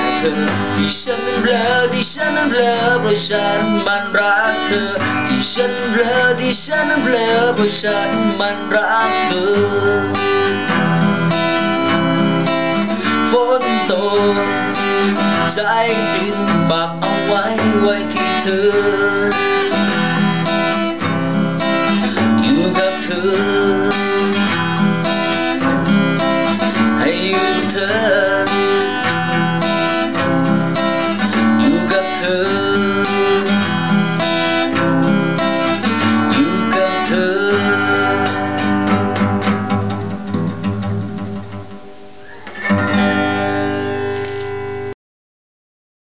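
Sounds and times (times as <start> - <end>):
guitar-led instrumental music: 0.0 - 45.0.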